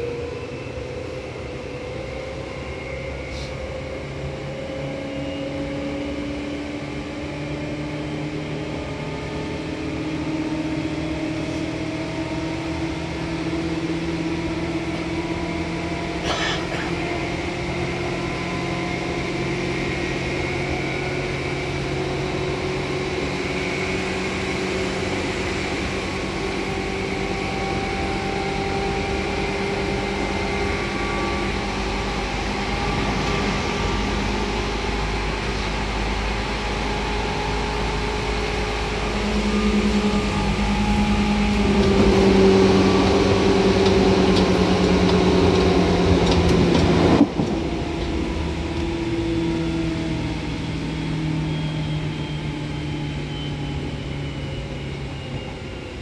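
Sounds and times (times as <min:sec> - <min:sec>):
electric train motor hum: 0:04.0 - 0:56.0.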